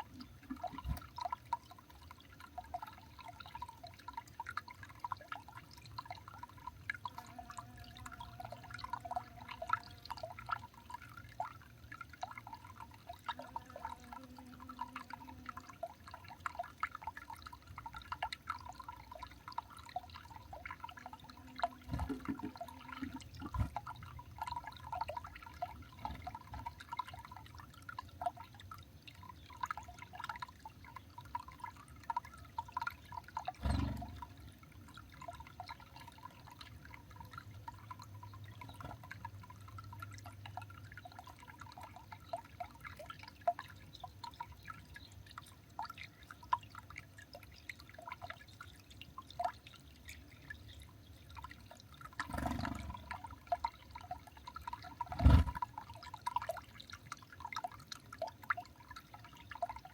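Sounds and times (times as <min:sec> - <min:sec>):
light ticking and dripping: 0:00.0 - 0:59.9.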